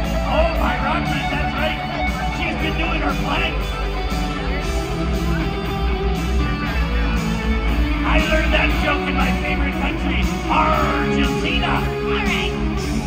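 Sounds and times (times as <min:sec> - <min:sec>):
loud rock music with guitar: 0:00.0 - 0:13.0.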